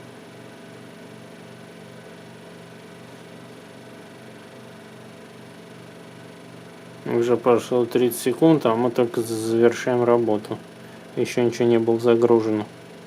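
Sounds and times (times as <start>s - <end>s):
small machine humming: 0.0s - 13.0s.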